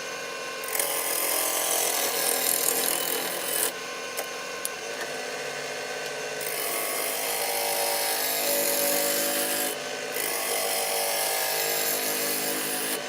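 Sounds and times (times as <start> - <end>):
wood lathe humming: 0.0 - 13.0
turning tool cutting wood: 0.6 - 13.0.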